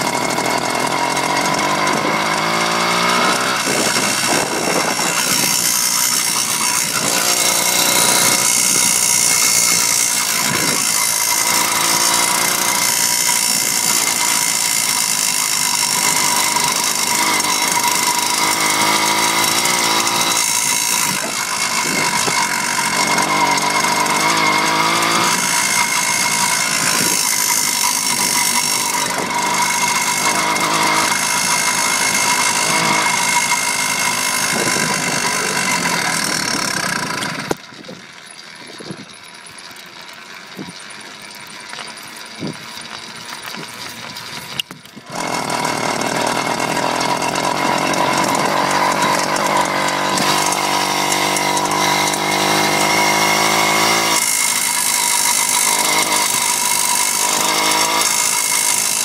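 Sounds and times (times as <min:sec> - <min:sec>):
engine rattle: 0:00.0 - 0:59.0
two-stroke engine revving: 0:00.0 - 0:59.0.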